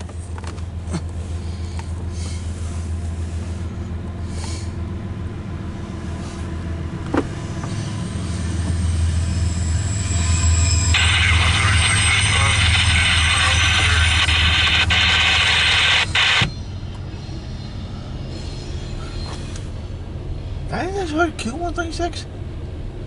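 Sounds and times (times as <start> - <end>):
locomotive engine drone: 0.0 - 23.0.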